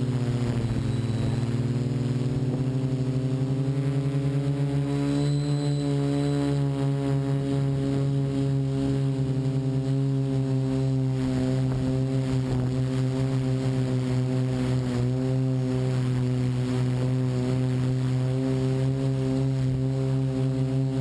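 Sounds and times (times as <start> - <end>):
drone motors droning: 0.0 - 21.0.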